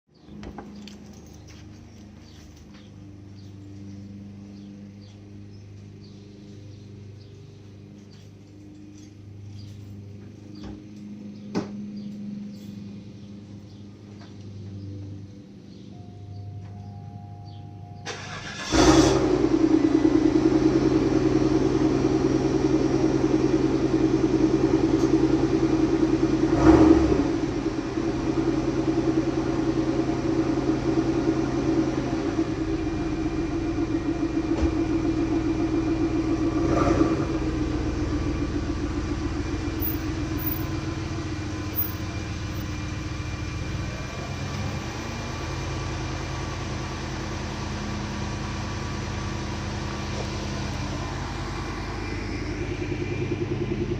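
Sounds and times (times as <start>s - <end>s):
car engine idling: 0.2s - 26.6s, 27.2s - 53.9s.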